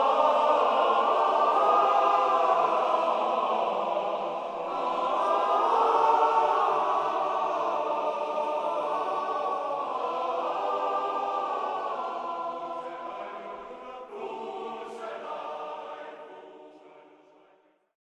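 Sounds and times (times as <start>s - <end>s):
choir singing held chords: 0.0s - 17.6s.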